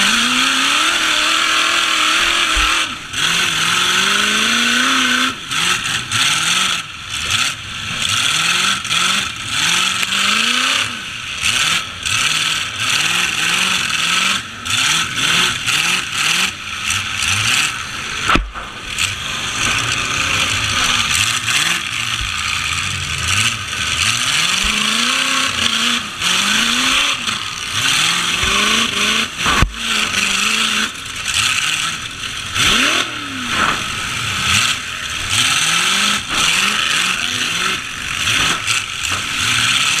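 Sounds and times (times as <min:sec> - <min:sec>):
truck engines revving: 0:00.0 - 0:40.0.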